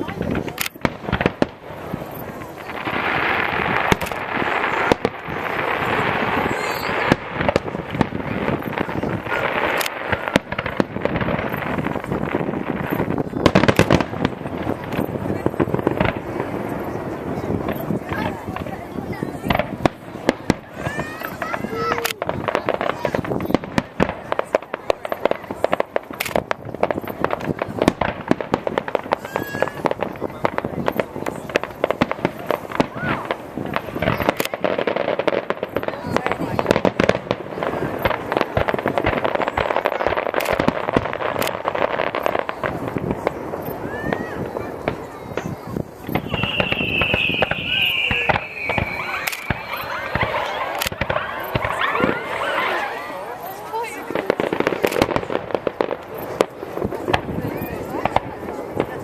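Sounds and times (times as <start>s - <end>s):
firework shells bursting: 0.0s - 59.0s
fireworks crackling: 0.0s - 59.0s.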